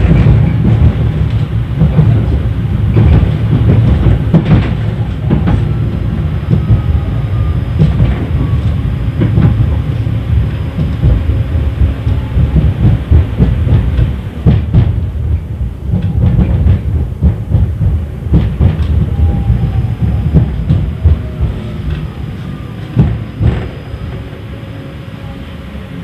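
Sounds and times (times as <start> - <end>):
wheels clicking over rails: 0.0 - 24.4
tram rumbling: 0.0 - 26.0.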